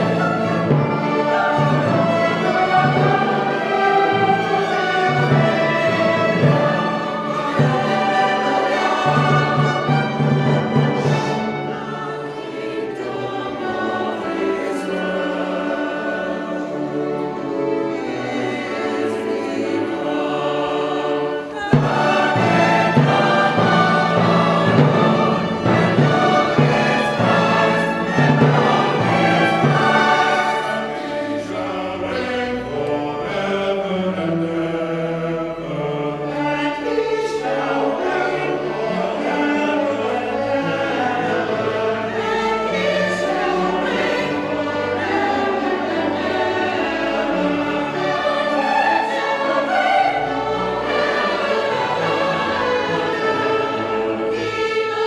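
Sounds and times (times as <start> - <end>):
choir singing: 0.0 - 55.0
orchestra playing: 0.0 - 55.0.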